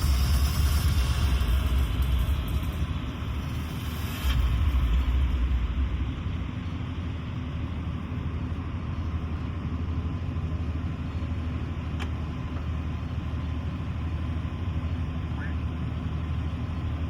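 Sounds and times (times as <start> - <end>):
engines idling: 0.0 - 17.0
steady hum: 0.0 - 17.0.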